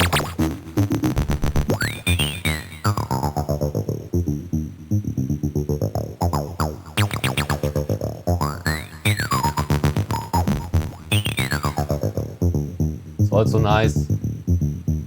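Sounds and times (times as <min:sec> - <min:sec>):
distorted acid synth bassline: 0:00.0 - 0:04.7, 0:05.3 - 0:15.0.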